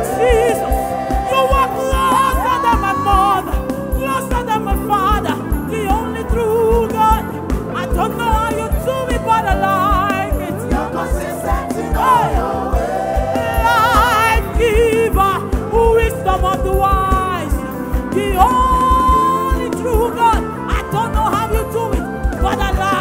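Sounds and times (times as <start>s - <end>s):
gospel band playing: 0.0s - 23.0s
people singing with vibrato: 0.0s - 23.0s.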